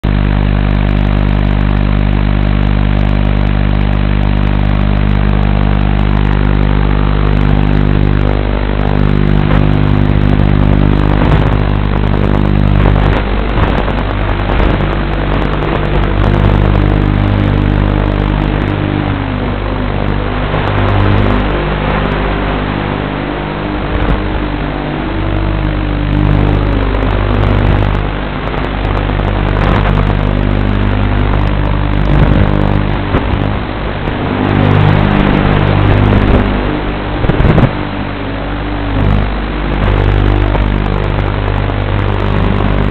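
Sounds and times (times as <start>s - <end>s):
drone motors and propellers humming: 0.0s - 42.9s.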